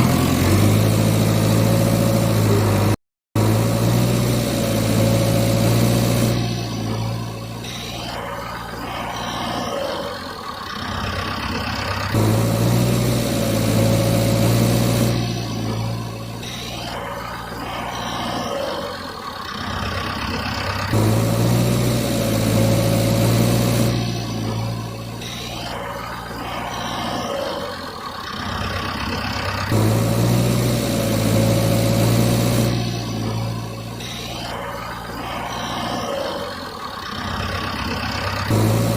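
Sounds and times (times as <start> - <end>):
loud engine running: 0.0 - 38.9
low engine hum: 0.0 - 38.9.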